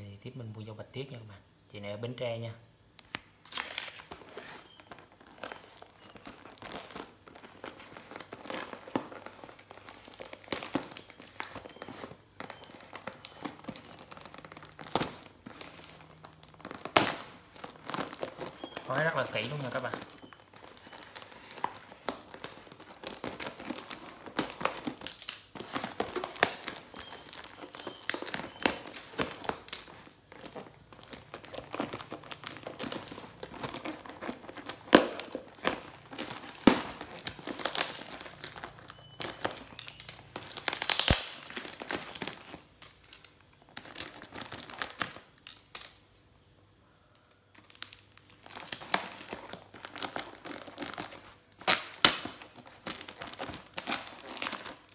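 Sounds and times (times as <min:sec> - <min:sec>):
plastic film crinkling and tearing: 0:03.0 - 0:46.1, 0:47.2 - 0:54.9.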